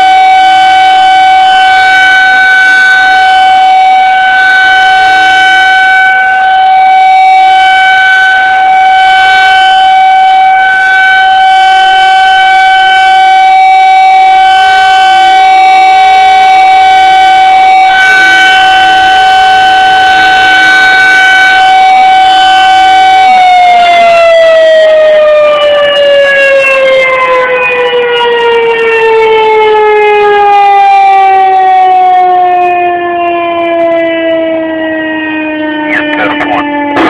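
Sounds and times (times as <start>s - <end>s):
rotating warning siren: 0.0s - 37.0s.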